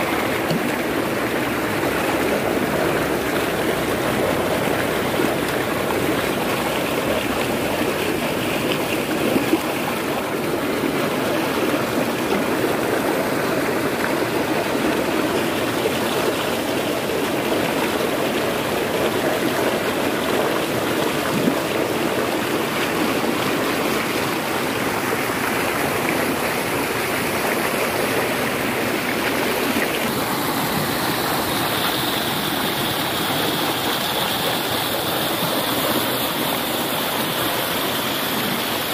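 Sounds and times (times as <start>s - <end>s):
mountain stream rushing: 0.0s - 38.9s
whitewater tumbling over rocks: 0.0s - 38.9s.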